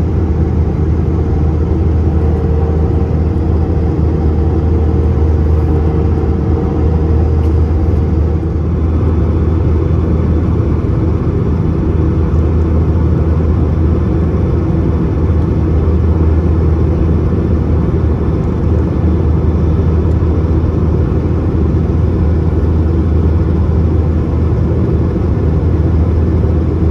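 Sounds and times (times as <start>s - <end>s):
deep rumble of aircraft engines: 0.0s - 26.9s.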